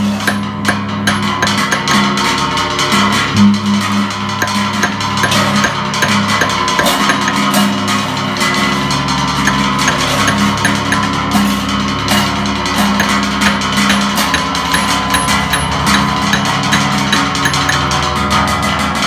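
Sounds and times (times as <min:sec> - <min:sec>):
gamelan gongs and cymbals: 0:00.0 - 0:19.0
low ringing tone: 0:00.0 - 0:19.0.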